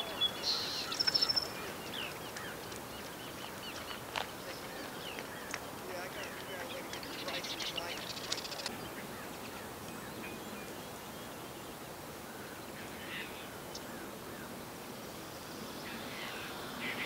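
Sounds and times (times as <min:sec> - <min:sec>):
distant bird calls: 0:00.0 - 0:17.0
outdoor background noise: 0:00.0 - 0:17.0.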